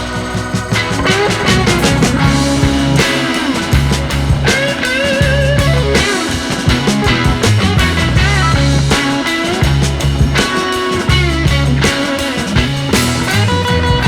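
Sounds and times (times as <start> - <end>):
rock music with electric guitar: 0.0 - 14.0.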